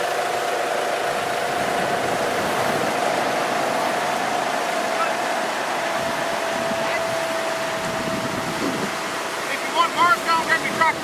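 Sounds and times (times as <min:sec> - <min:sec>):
mid-pitched hum: 0:00.0 - 0:11.0
surf rushing: 0:00.0 - 0:11.0
wind: 0:00.0 - 0:11.0.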